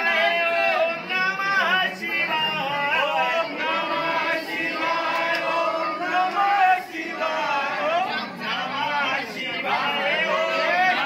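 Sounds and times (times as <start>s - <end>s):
crowd of men chanting: 0.0s - 11.0s.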